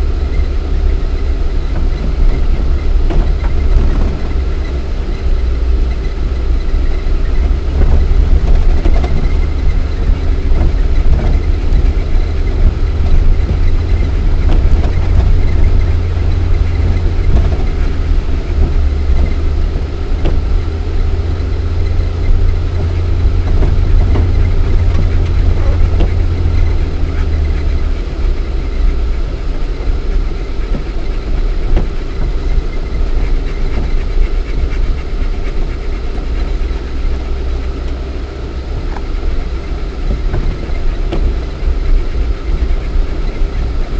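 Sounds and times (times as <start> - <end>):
car engine rumbling: 0.0 - 43.9
body knocks and rattles: 1.2 - 5.1, 5.8 - 37.9.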